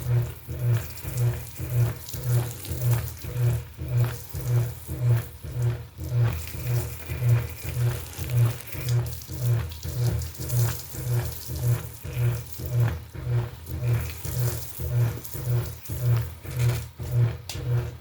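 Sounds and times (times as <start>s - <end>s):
washing machine motor hum: 0.0s - 18.0s
water sloshing in tub: 0.0s - 18.0s.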